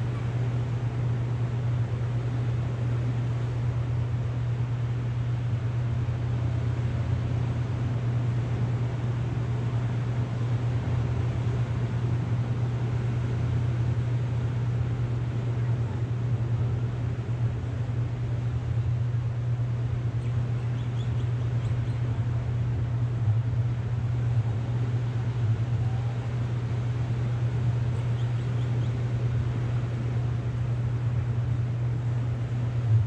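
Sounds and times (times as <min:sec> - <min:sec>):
low rumbling background noise: 0:00.0 - 0:33.0.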